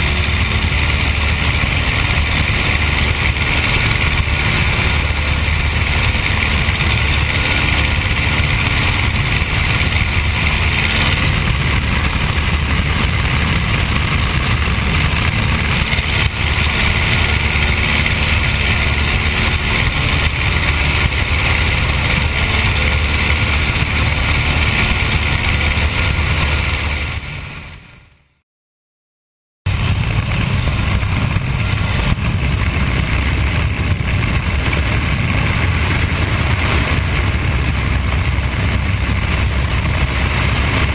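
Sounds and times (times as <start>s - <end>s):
slipstream rushing: 0.0s - 27.5s, 29.7s - 40.9s
propeller aircraft engine running: 0.0s - 28.4s, 29.7s - 40.9s.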